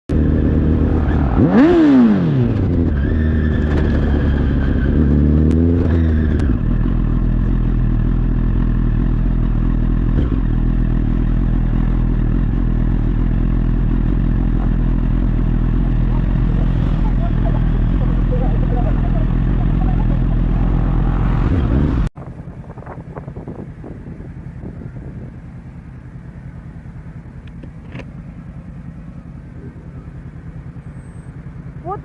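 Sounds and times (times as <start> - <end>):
motorcycle engine revving: 0.1 - 32.0.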